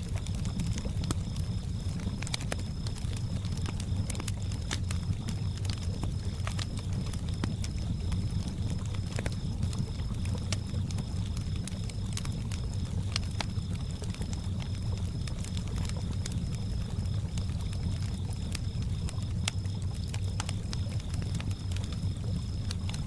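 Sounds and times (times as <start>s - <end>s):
campfire crackling and popping: 0.0s - 23.0s
crickets chirping: 0.0s - 23.0s.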